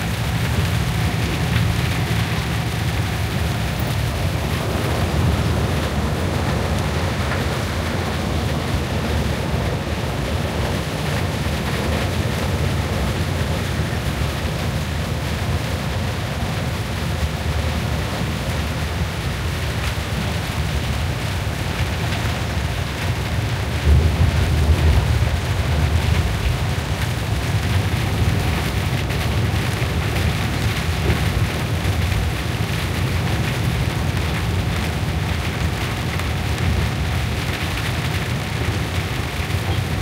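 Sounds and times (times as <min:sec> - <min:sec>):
rain pattering on vehicle: 0:00.0 - 0:40.0
vehicle rumble on wet road: 0:00.0 - 0:40.0.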